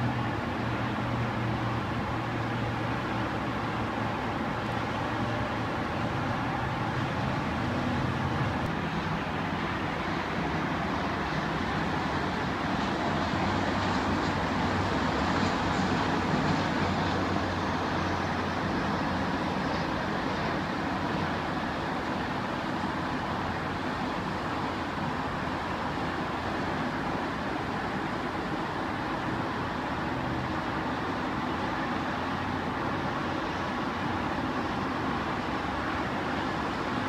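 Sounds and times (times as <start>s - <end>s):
freeway traffic roar: 0.0s - 37.0s
jet airliner engines: 0.0s - 37.0s.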